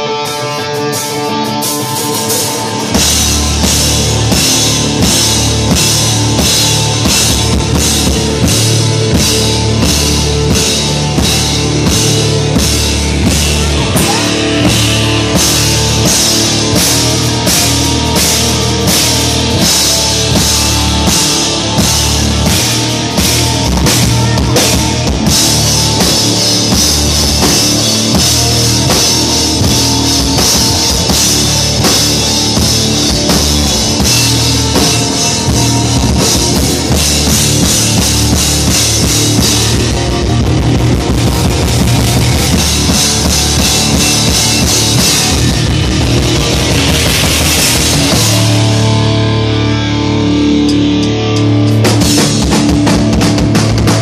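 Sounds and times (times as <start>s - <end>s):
rock band playing live: 0.0s - 54.0s
sustained guitar chord: 2.6s - 54.0s.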